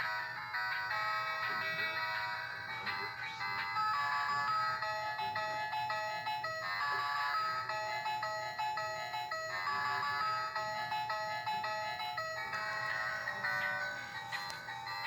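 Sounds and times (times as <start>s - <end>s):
electronic toy tune: 0.0s - 15.0s.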